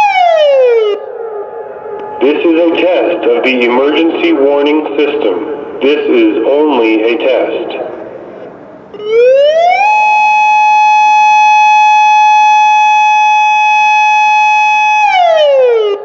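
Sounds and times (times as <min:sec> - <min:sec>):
electronic warning siren: 0:00.0 - 0:16.0.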